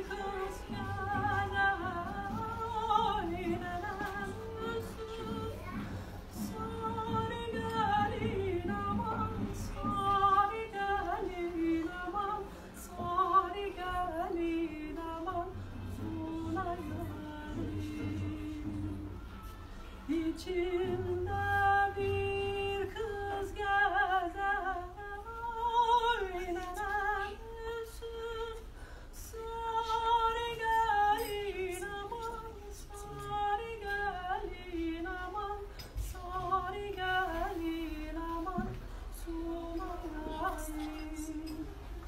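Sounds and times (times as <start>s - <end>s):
person singing unaccompanied: 0.0s - 42.0s.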